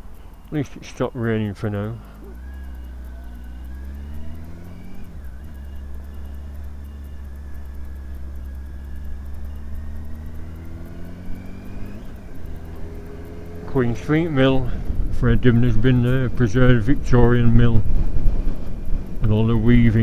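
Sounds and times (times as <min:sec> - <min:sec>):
low rumble: 0:00.0 - 0:20.0
motorcycle engine running: 0:00.0 - 0:20.0.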